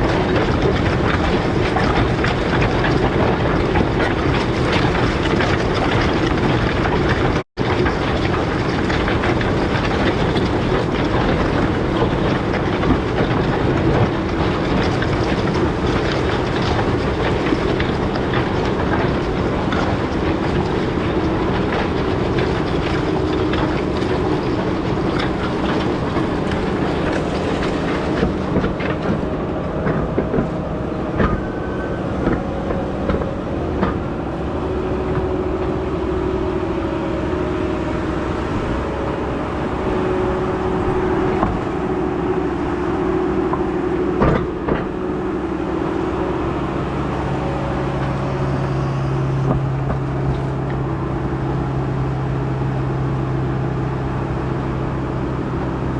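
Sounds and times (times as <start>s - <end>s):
knocks and rattles: 0.0s - 35.9s, 37.5s - 51.1s
deep steady drone: 0.0s - 55.9s
tractor engine running: 0.0s - 55.9s.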